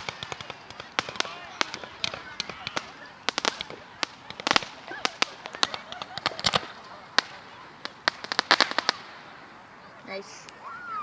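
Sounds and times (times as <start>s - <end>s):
fireworks cracking and popping: 0.0s - 10.2s.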